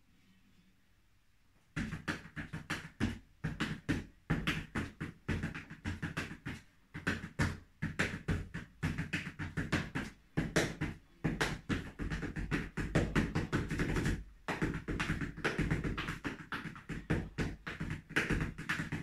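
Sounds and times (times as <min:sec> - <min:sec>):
dance footwork stamps on wooden floor: 0:01.8 - 0:19.0.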